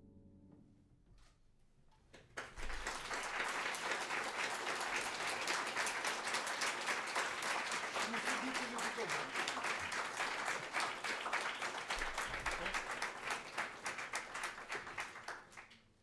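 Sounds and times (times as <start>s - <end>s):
audience applauding: 2.2s - 16.0s.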